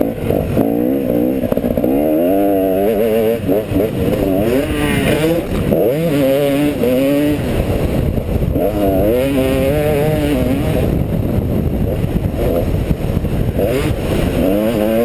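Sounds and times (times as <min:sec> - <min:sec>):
motocross bike engine revving: 0:00.0 - 0:15.0
rough track noise: 0:00.0 - 0:15.0
wind: 0:00.0 - 0:15.0.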